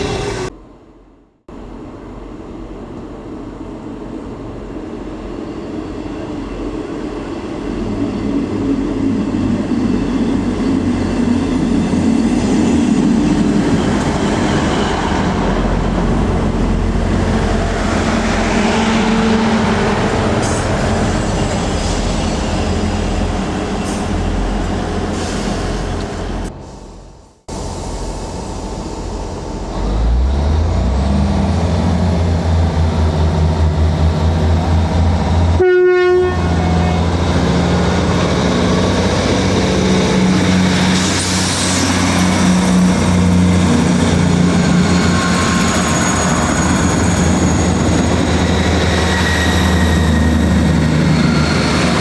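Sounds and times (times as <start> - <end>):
diesel train running: 0.0 - 52.0.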